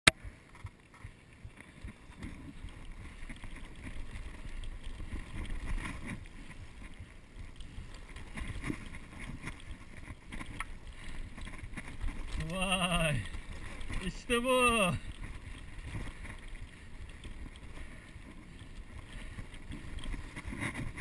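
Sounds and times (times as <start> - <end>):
bike tyres rumbling on dirt: 0.2 - 21.0
wind on microphone: 1.4 - 21.0.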